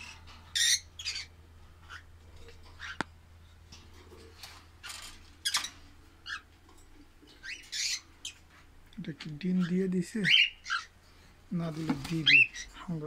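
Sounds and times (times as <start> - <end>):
birds squawking: 0.0 - 3.2, 3.9 - 13.0.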